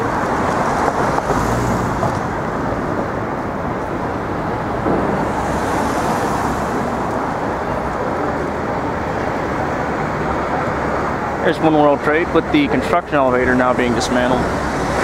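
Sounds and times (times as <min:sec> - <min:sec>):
city street traffic noise: 0:00.0 - 0:15.0.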